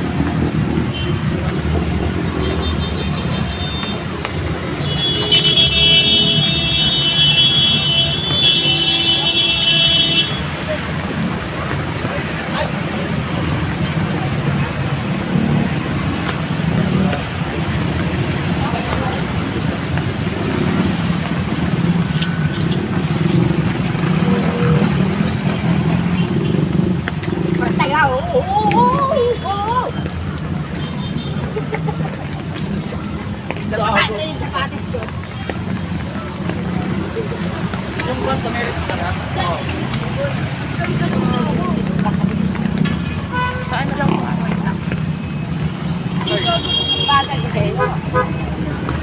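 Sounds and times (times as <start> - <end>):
traffic engine rumble: 0.0 - 49.0.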